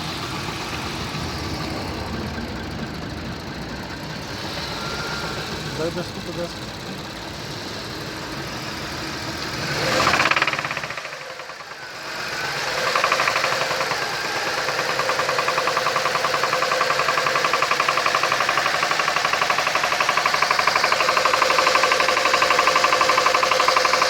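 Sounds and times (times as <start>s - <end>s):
engine revving with ticking knock: 0.0s - 24.0s.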